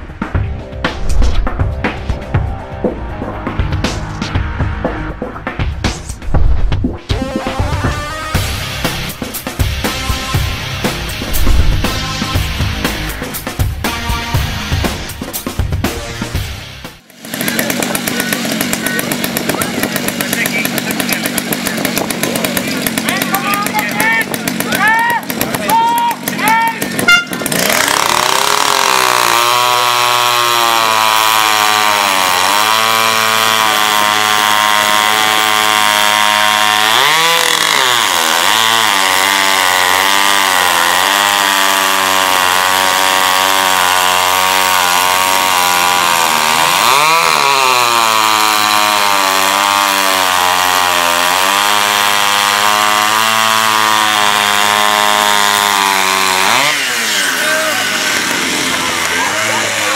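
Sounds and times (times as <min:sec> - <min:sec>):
chainsaw cutting through log: 0:00.7 - 0:04.1, 0:07.1 - 0:59.9.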